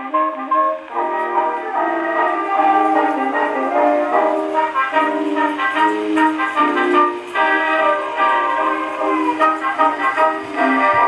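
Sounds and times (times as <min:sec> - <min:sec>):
instrumental music from old gramophone: 0:00.0 - 0:11.0.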